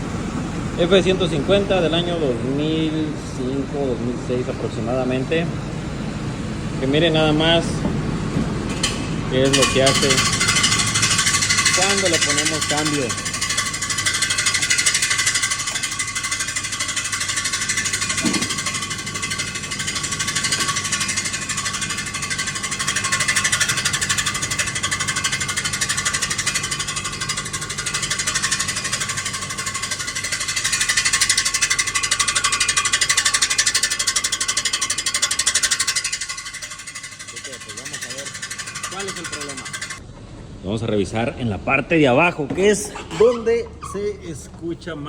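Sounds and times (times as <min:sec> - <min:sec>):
metallic rattling scrape: 0:00.8 - 0:05.5, 0:06.8 - 0:40.0, 0:42.6 - 0:45.0.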